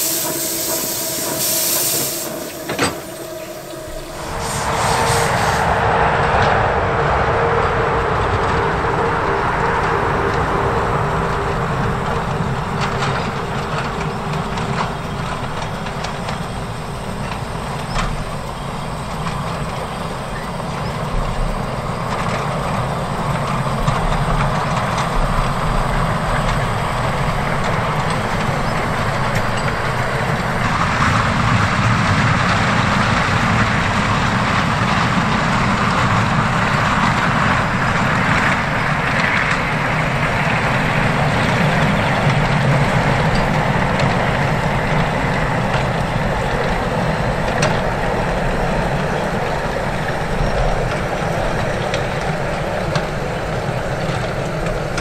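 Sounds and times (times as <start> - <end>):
steam locomotive rumble and hiss: 0.0 - 55.0.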